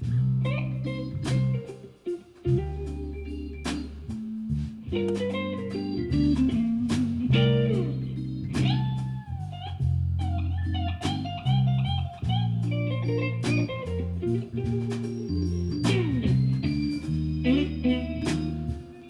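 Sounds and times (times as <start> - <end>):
bass guitar: 0.0 - 19.0
electric guitar lead with bent notes: 0.0 - 19.0.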